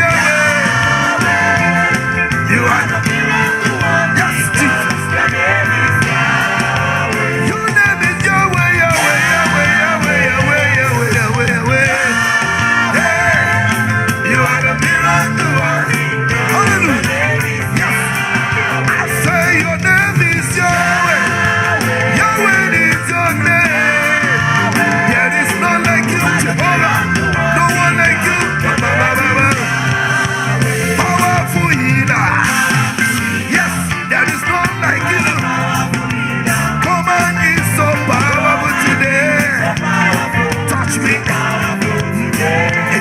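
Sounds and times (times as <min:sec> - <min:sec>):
band playing worship music: 0:00.0 - 0:43.0
many voices singing: 0:00.0 - 0:43.0.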